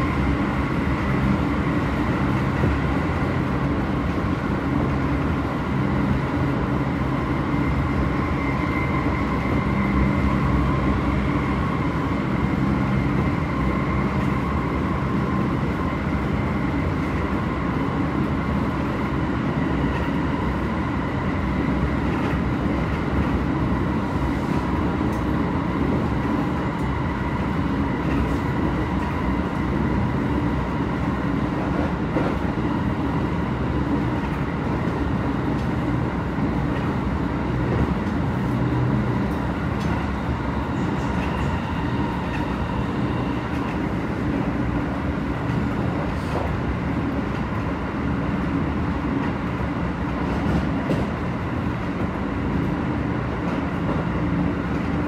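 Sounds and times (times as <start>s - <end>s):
train traction motor whine: 0.0s - 50.0s
train wheels rumbling on rail: 0.0s - 55.0s.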